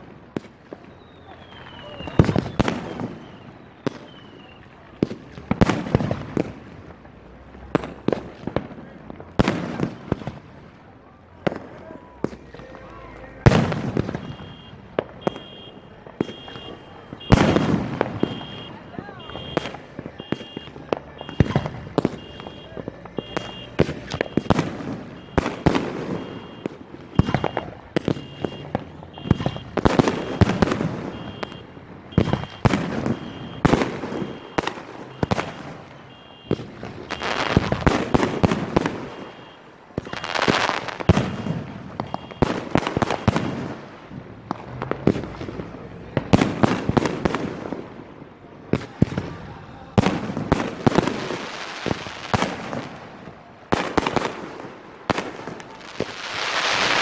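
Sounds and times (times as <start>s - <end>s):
fireworks bursting with bangs: 0.0s - 57.0s
fireworks crackling: 0.0s - 57.0s.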